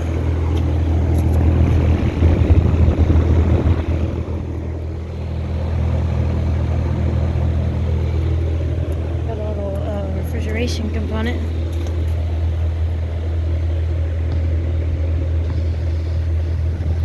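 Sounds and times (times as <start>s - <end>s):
compressor hum: 0.0s - 17.0s
condenser fan rushing: 0.0s - 17.0s.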